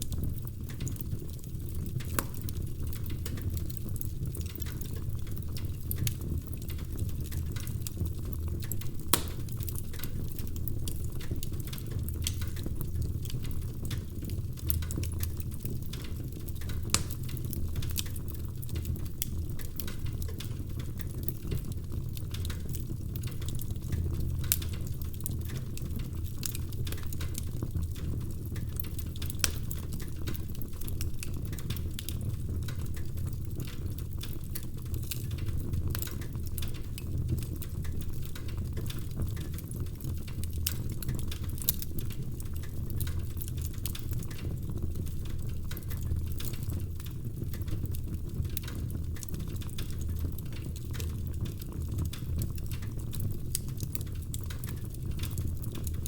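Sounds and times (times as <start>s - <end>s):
log fire crackling: 0.0s - 56.0s
low rumble of flames: 0.0s - 56.0s.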